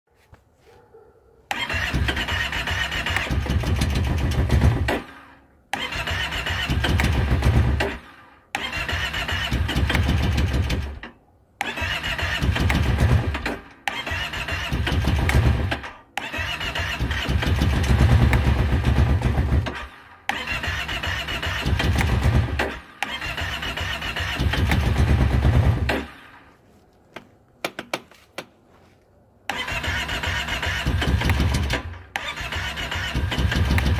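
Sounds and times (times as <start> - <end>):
engine cranking with electric starter: 1.5 - 26.4, 29.5 - 33.9.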